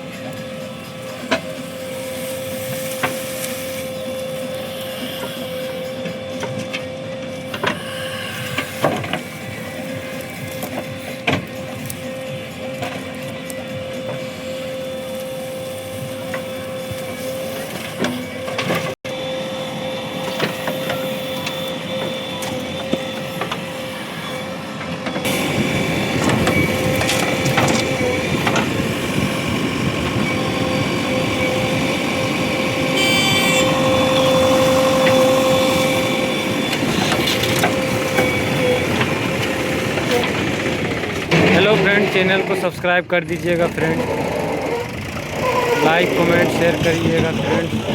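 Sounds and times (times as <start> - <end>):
heavy diesel machinery whining: 0.0 - 47.9.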